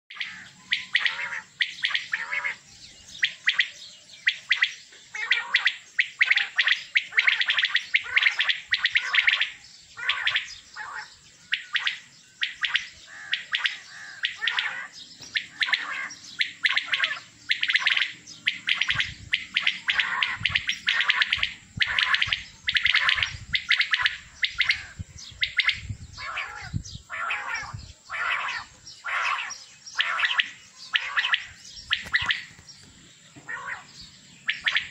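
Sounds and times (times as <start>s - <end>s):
quail calling in chorus: 0.1s - 32.6s, 33.4s - 34.9s.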